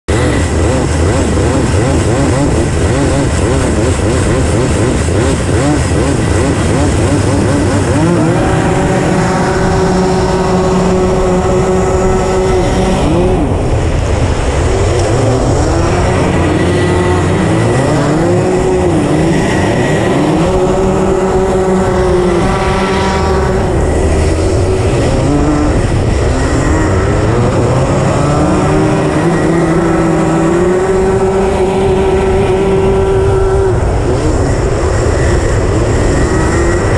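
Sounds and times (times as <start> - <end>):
other kart engines: 0.0 - 36.9
kart engine revving: 0.1 - 36.9.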